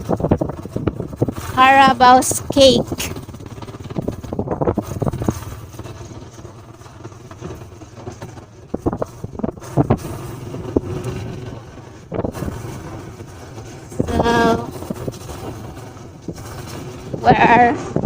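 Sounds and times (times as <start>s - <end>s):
motorcycle engine rumble: 0.0s - 18.0s
wind and road noise: 0.0s - 18.0s.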